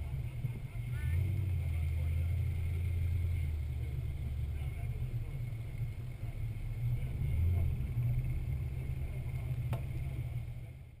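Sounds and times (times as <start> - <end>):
vehicle engine low rumble: 0.0 - 11.0.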